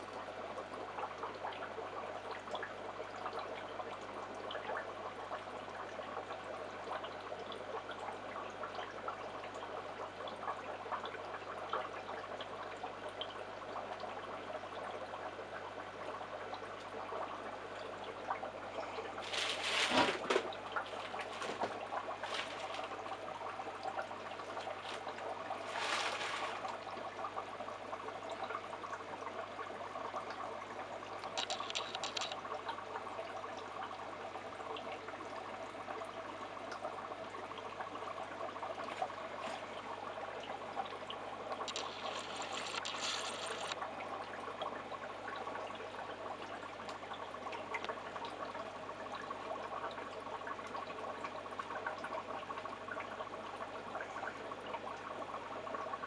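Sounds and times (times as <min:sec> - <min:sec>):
fish tank water trickling: 0:00.0 - 0:56.0
low steady hum: 0:00.0 - 0:56.0.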